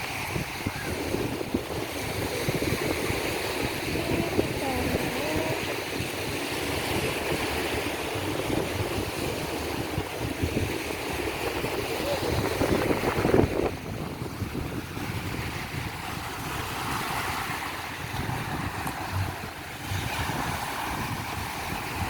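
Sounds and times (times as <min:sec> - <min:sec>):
sea surf washing onto beach: 0:00.0 - 0:22.0
wind buffeting microphone: 0:00.0 - 0:22.0.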